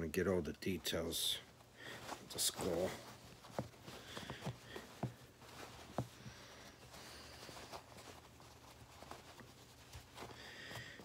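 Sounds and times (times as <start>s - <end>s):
fabric rustling: 0.7s - 11.0s.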